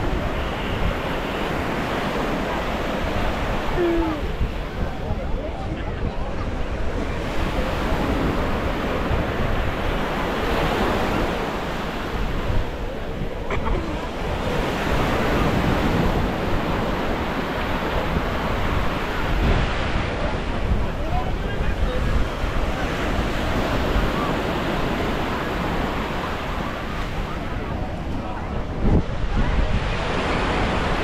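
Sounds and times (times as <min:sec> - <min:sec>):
small waves washing onto sand: 0:00.0 - 0:31.0
wind rumbling on microphone: 0:00.0 - 0:31.0.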